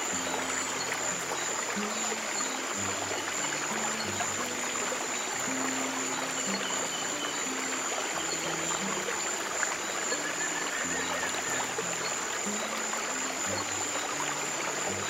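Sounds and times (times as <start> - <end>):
stream water running: 0.0 - 15.0.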